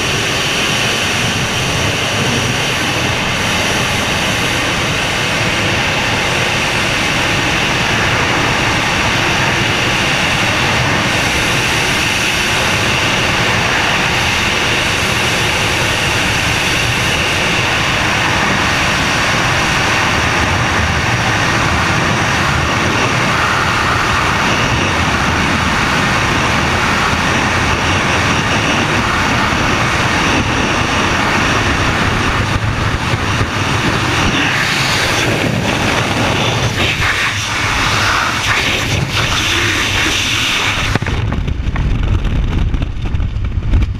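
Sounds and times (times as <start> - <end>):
wind rushing over camera: 0.0 - 43.9.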